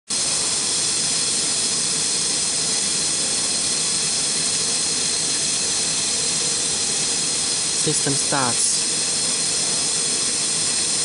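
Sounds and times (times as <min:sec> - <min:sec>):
loud rushing hiss: 0:00.1 - 0:11.0.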